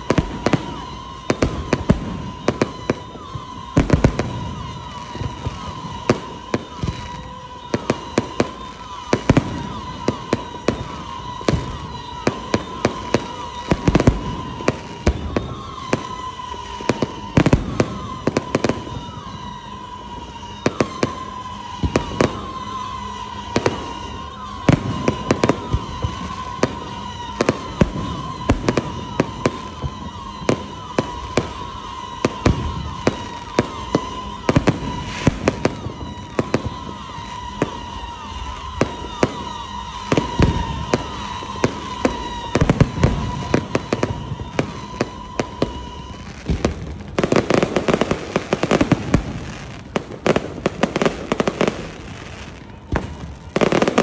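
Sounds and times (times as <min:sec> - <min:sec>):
fireworks bangs: 0:00.0 - 0:54.0
high wavering whistle: 0:00.0 - 0:54.0.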